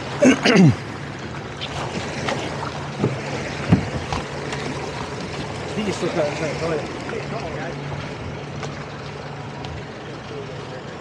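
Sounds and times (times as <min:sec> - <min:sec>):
outboard engines humming: 0:00.0 - 0:11.0
water rushing past hull: 0:00.0 - 0:11.0.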